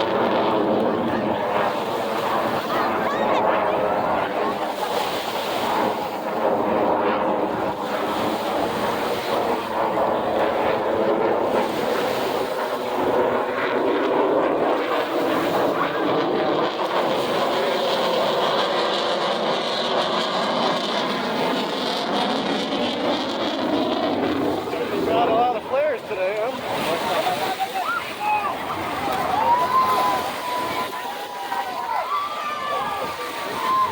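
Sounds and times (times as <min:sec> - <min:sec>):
fighter jet roaring flyby: 0:00.0 - 0:33.9.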